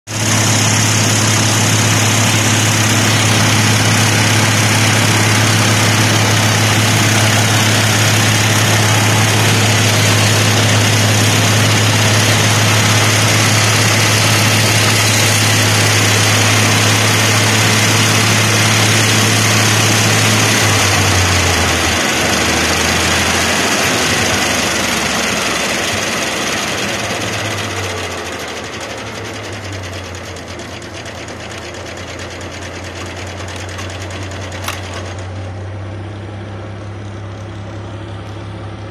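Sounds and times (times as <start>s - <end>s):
tractor engine running: 0.1s - 38.9s.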